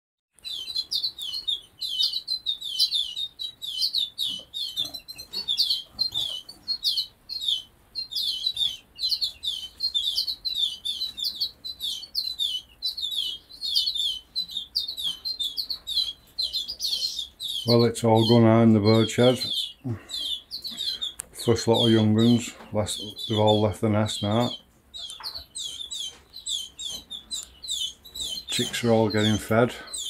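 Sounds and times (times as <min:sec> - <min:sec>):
canaries and finches chirping: 0:00.4 - 0:30.0.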